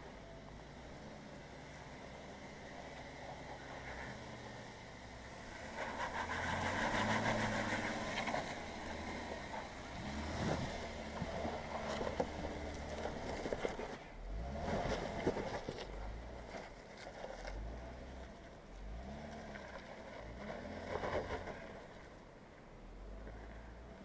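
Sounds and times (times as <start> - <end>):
engine running at low revs: 0.0 - 22.2.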